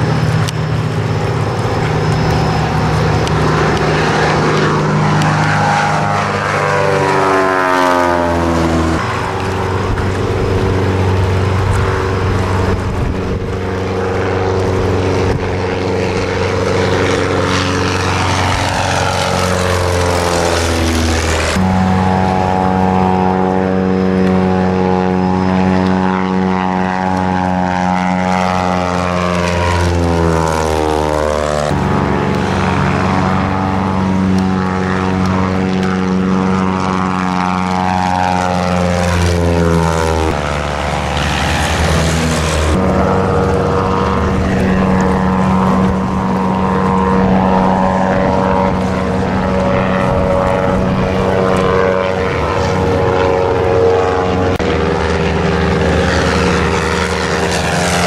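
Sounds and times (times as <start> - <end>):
propeller plane flying overhead: 0.0 - 58.0.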